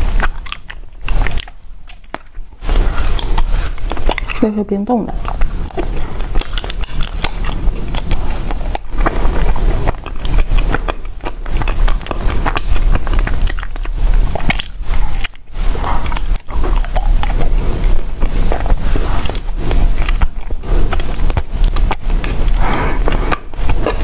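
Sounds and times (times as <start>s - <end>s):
ice crunching when chewed: 0.0s - 24.0s.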